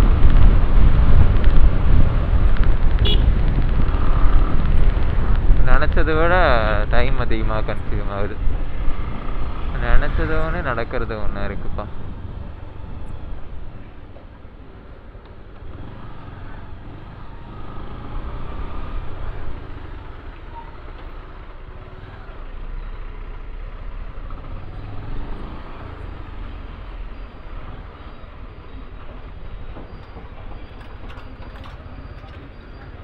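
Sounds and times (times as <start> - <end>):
wind and road noise: 0.0 - 33.0.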